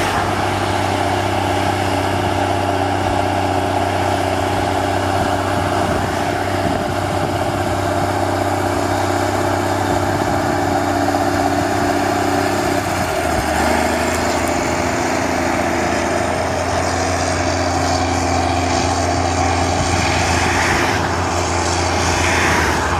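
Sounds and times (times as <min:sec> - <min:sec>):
tractor diesel engine under load: 0:00.0 - 0:22.9.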